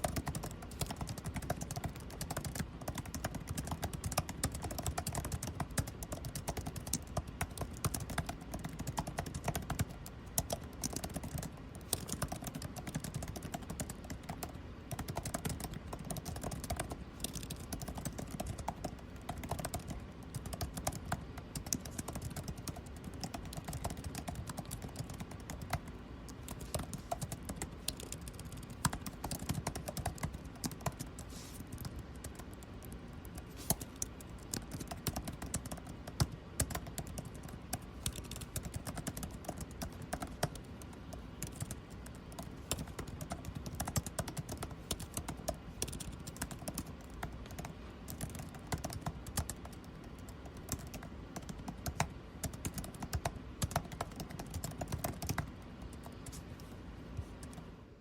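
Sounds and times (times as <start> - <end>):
typing on computer keyboard: 0.0 - 57.7
air conditioning hum: 0.0 - 58.0.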